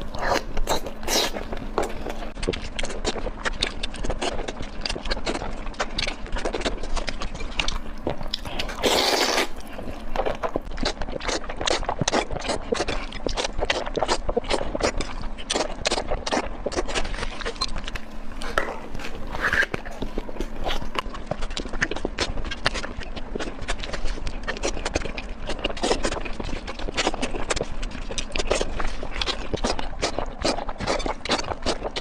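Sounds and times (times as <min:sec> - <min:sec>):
wet chewing mouth sounds: 0:00.0 - 0:32.0.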